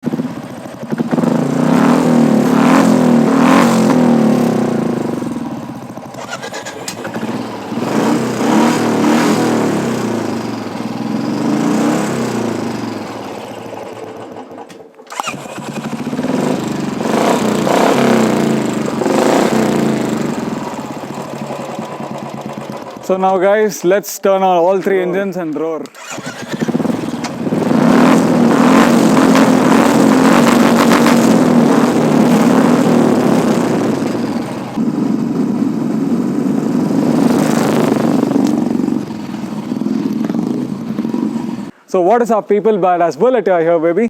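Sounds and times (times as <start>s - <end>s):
motorcycle engine revving: 0.0s - 23.1s, 25.9s - 41.7s.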